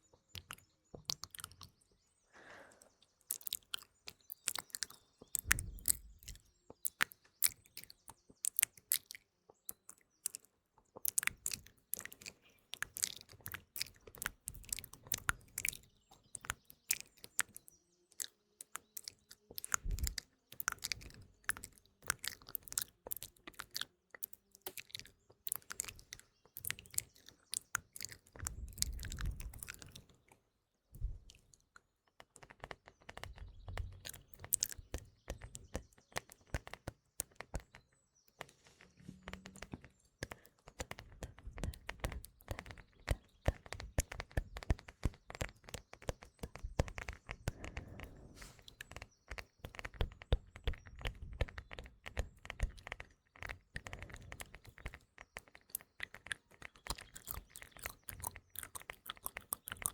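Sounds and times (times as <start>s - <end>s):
birdsong: 0.0s - 59.9s
wet mouth clicks and smacks: 0.4s - 1.7s, 3.2s - 30.1s, 31.0s - 37.7s, 39.3s - 59.9s.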